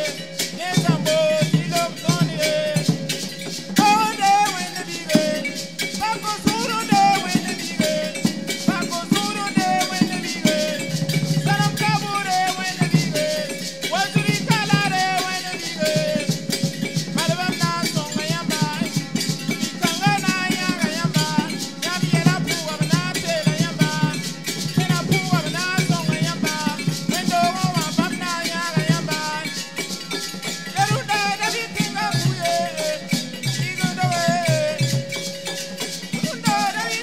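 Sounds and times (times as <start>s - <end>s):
drums and hand percussion: 0.0s - 37.0s
group of voices singing: 0.0s - 37.0s.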